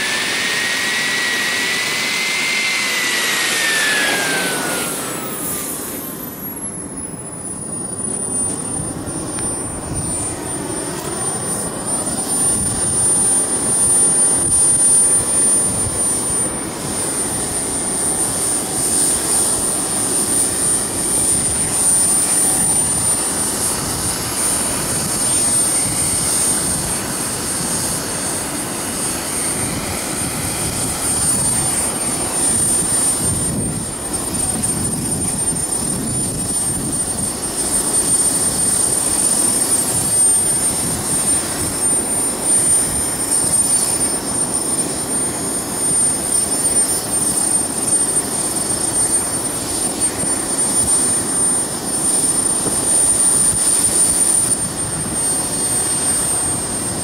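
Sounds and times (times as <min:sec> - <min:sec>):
jet turbine running: 0:00.0 - 0:57.0.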